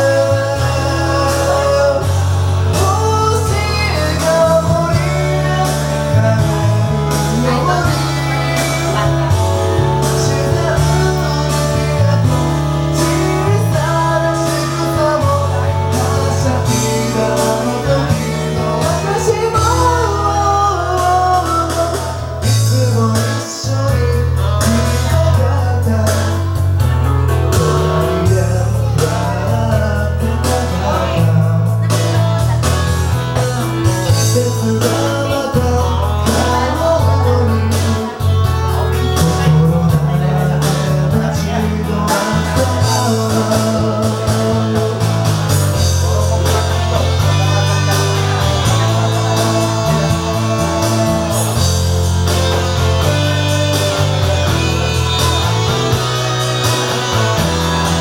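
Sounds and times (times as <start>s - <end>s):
karaoke backing track: 0.0s - 58.0s
man singing karaoke: 0.0s - 58.0s.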